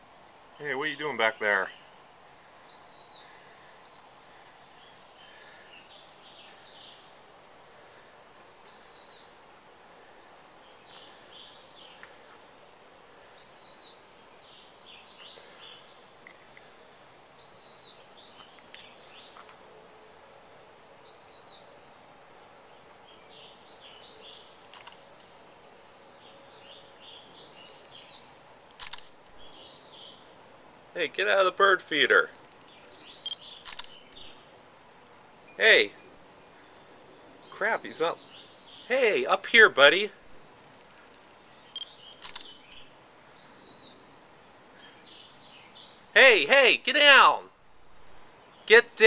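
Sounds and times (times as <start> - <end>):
small songbirds chirping: 0.0 - 19.8, 20.4 - 49.0
faint outdoor hiss: 0.0 - 49.0.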